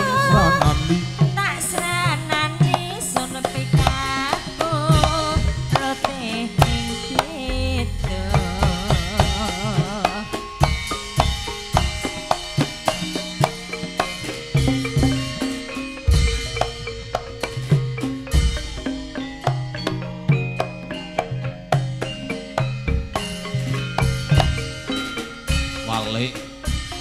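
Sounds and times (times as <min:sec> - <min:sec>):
busy drum rhythm: 0:00.0 - 0:27.0
wavering melody with vibrato: 0:00.0 - 0:27.0.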